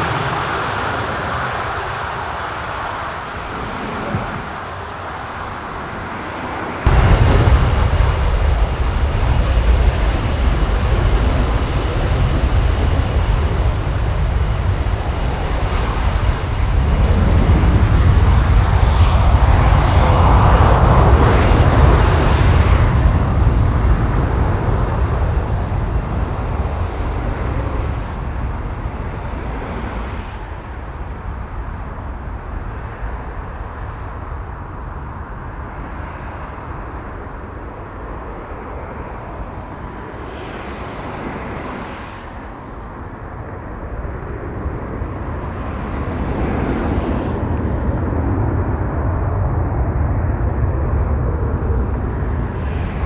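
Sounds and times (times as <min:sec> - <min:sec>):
plane passing overhead: 0:00.0 - 0:53.0.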